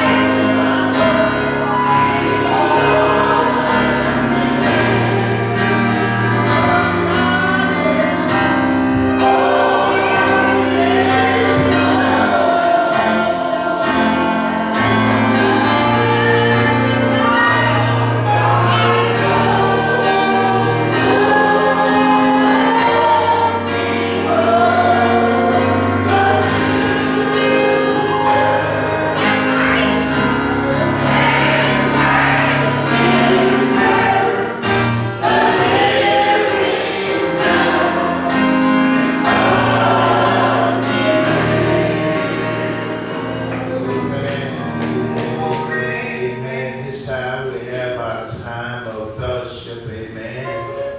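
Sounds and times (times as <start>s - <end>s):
choir singing gospel: 0.0s - 50.9s.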